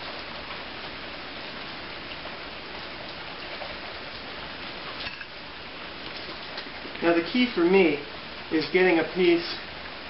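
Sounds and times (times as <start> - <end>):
heavy rain on concrete: 0.0 - 10.0.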